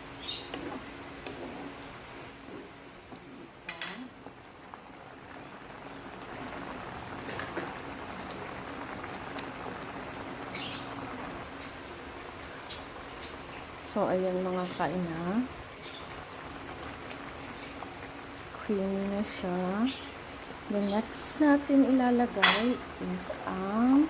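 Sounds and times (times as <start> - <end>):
sauce bubbling and sizzling: 0.0 - 24.0.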